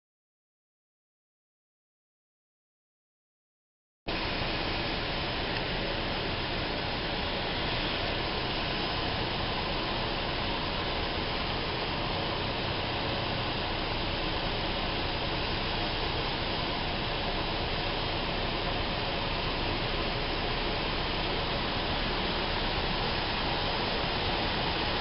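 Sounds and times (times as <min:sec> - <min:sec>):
light aircraft cabin roar: 0:04.1 - 0:25.0.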